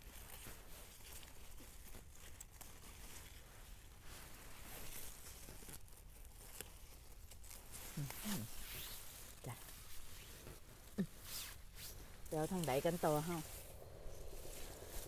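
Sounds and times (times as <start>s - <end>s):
rustling of plants and leaf litter: 0.0s - 15.0s.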